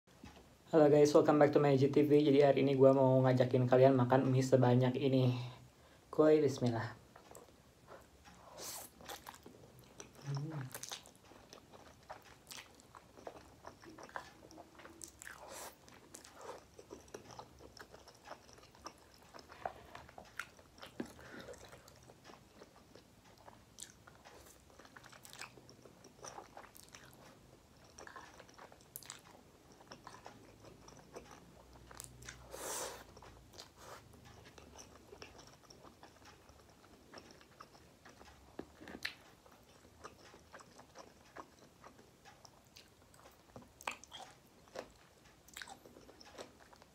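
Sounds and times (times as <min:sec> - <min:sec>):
person chewing and slurping noodles: 0:07.1 - 0:46.9.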